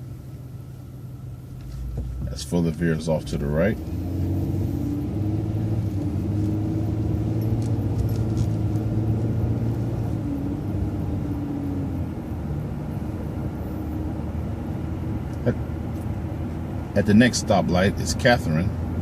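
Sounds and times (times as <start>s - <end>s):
bus engine running: 0.0s - 19.0s.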